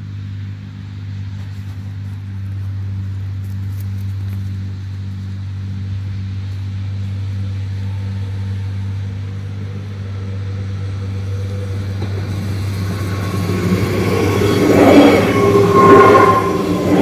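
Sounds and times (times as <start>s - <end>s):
electric train rumbling: 0.0s - 17.0s
wheel-on-rail whine: 0.0s - 17.0s.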